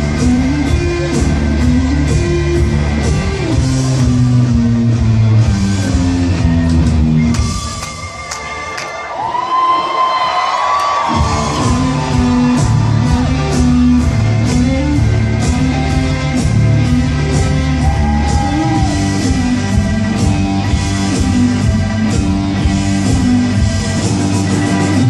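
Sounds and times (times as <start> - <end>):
rock band playing: 0.0 - 9.1, 11.0 - 25.0.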